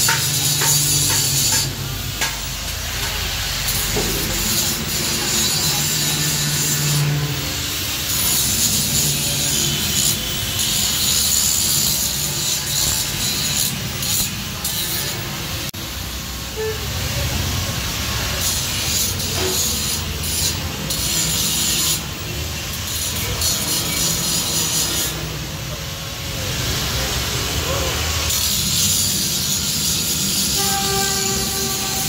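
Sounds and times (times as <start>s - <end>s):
angle grinder grinding metal: 0.0s - 15.5s, 18.4s - 25.6s, 27.9s - 32.0s.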